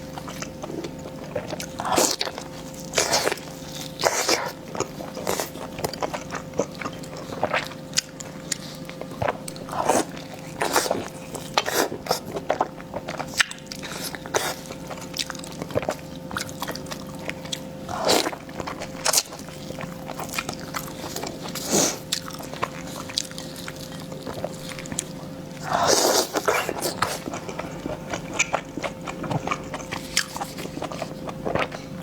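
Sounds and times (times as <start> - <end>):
chewing and biting food: 0.0 - 32.0.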